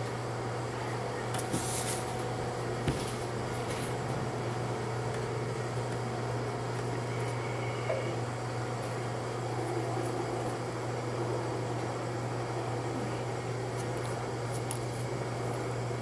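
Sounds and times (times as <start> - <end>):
smoker machine hum: 0.0 - 16.0.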